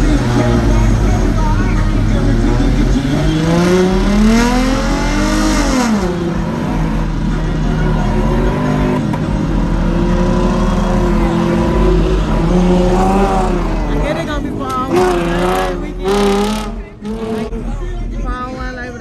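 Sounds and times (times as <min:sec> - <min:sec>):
car engine revving: 0:00.0 - 0:18.3.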